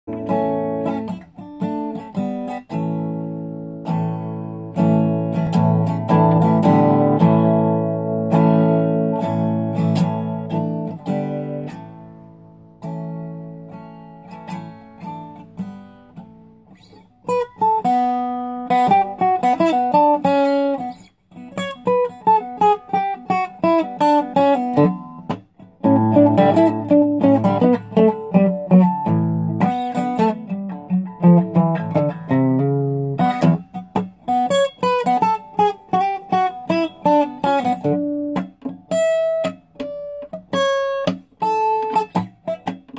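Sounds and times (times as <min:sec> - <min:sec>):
acoustic guitar strummed chords: 0:00.1 - 0:42.9
picked guitar melody: 0:00.1 - 0:42.9.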